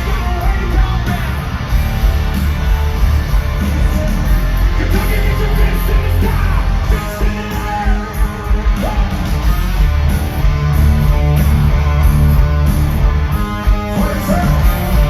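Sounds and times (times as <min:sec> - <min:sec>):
hard rock band playing: 0:00.0 - 0:15.0.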